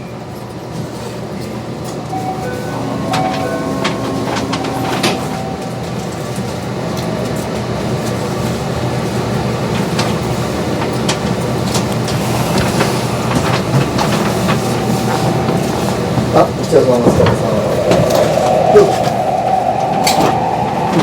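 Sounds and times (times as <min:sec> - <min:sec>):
train motors and wheels rumbling: 0:00.0 - 0:21.0.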